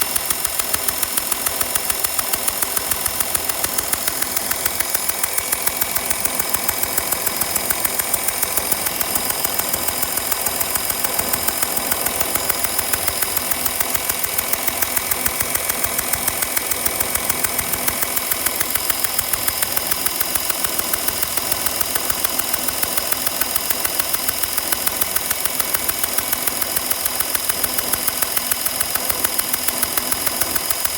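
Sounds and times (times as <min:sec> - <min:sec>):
diesel engine idling with ticking: 0:00.0 - 0:30.9.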